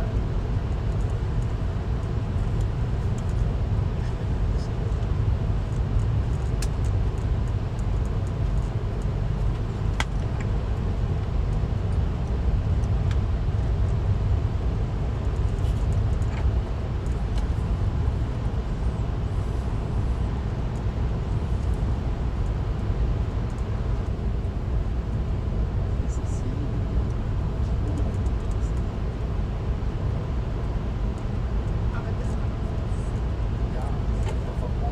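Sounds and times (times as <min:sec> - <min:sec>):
train rumbling along track: 0:00.0 - 0:34.9.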